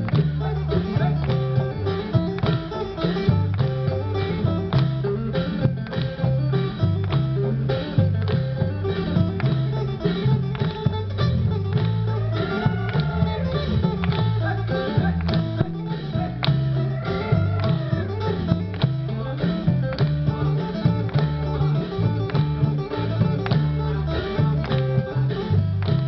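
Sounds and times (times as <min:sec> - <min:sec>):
bass line: 0:00.0 - 0:26.0
plucked lute melody: 0:00.0 - 0:26.0.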